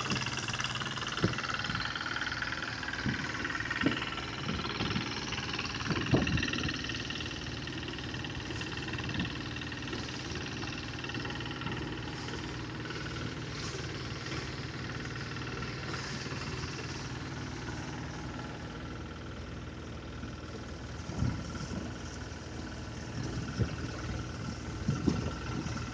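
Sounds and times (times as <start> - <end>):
harvesting machine engine running: 0.0 - 25.9.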